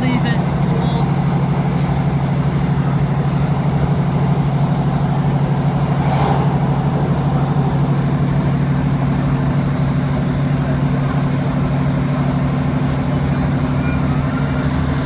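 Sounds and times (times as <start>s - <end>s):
train diesel engine droning: 0.0s - 15.0s.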